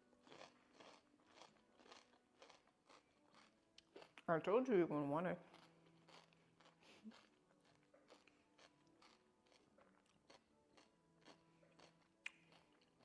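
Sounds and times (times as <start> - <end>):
quiet chewing clicks: 0.2 - 4.2, 5.5 - 13.0.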